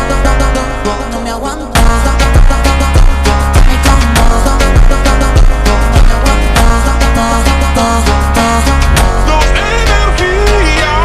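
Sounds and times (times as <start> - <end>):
song with heavy bass and drums: 0.0 - 11.0.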